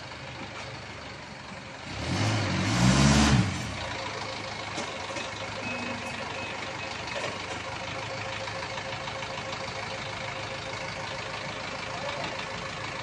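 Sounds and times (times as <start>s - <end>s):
truck diesel engine idling: 0.0s - 2.0s, 3.5s - 13.0s.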